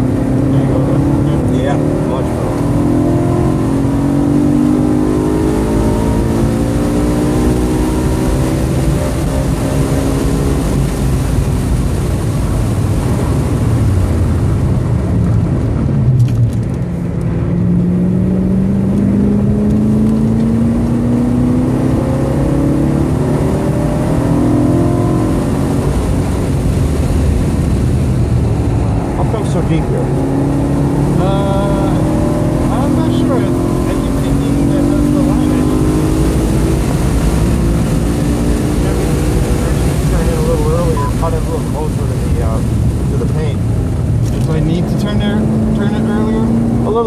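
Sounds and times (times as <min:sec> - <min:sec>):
car engine from inside cabin: 0:00.0 - 0:47.0.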